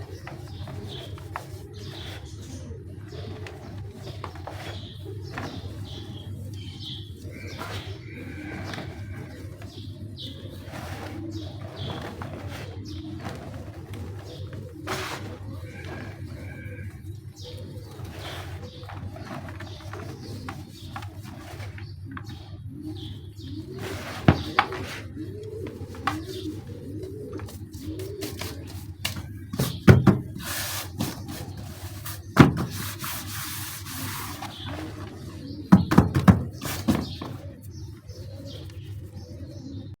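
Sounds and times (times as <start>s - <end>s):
dove cooing: 0.0s - 40.0s.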